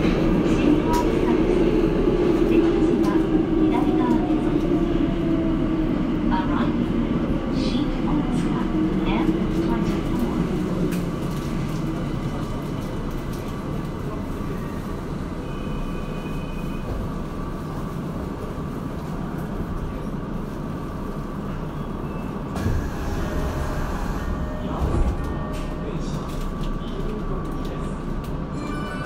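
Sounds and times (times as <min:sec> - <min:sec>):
subway car wheels rumbling on rail: 0:00.0 - 0:29.0.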